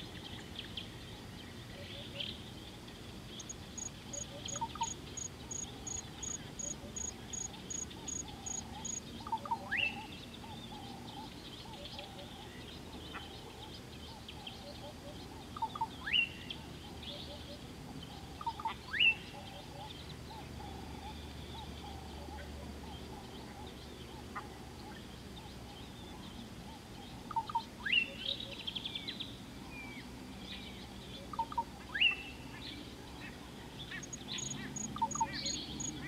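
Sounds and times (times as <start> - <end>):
chorus of chirping birds and insects: 0.0 - 36.0.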